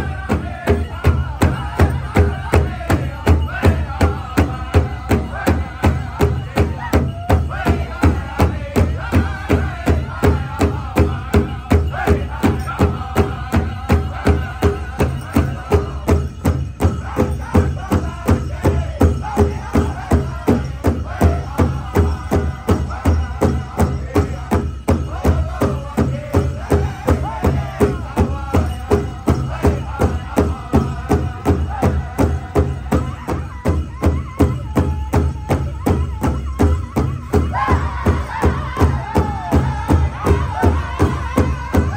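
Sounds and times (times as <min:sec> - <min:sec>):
group of singers chanting: 0:00.0 - 0:16.2, 0:16.9 - 0:33.4, 0:37.3 - 0:41.9
drum beating steadily: 0:00.0 - 0:41.9.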